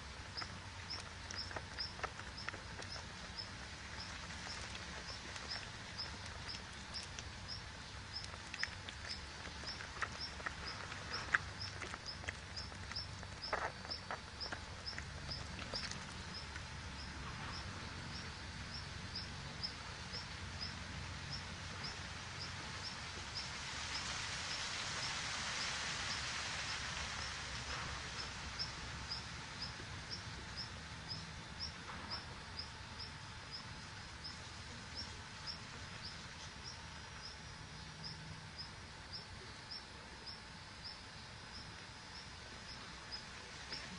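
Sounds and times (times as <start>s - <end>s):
outdoor background noise: 0.0s - 43.9s.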